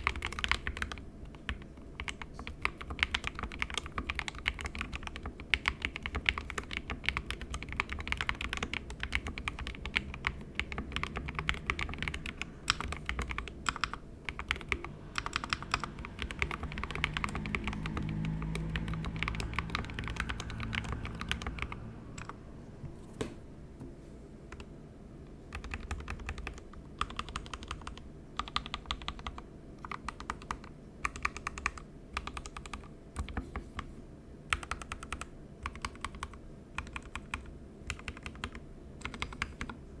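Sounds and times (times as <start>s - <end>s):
mechanical keyboard typing: 0.0s - 22.4s, 25.5s - 33.4s, 34.5s - 39.8s.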